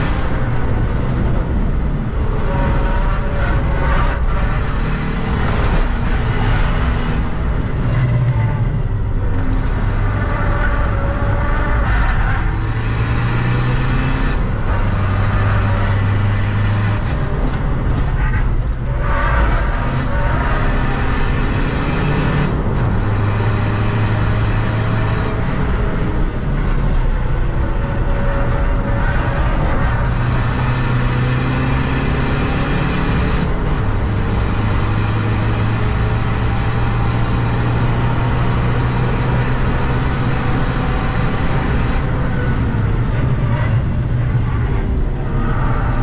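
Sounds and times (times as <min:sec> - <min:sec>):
diesel engine running hard: 0:00.0 - 0:46.0
tyre and road noise: 0:00.0 - 0:46.0.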